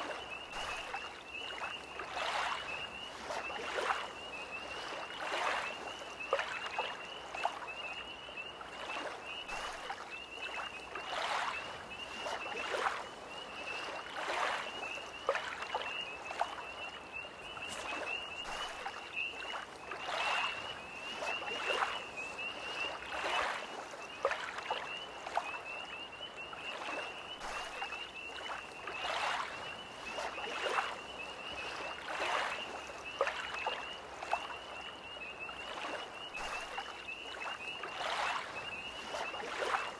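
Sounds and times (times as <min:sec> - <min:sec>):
lake waves lapping: 0:00.0 - 0:07.8, 0:08.5 - 0:39.9
tree frogs trilling: 0:00.0 - 0:39.9.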